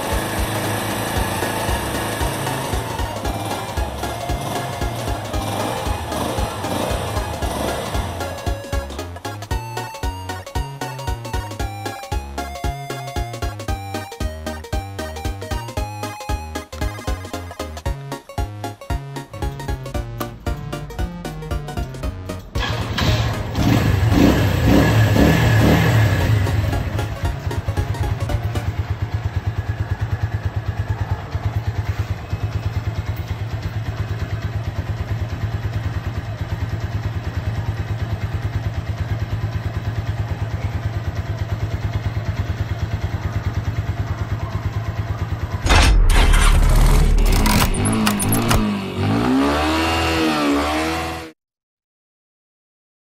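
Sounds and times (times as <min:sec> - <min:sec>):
motorcycle engine idling: 0:00.0 - 0:18.0, 0:19.2 - 0:47.3.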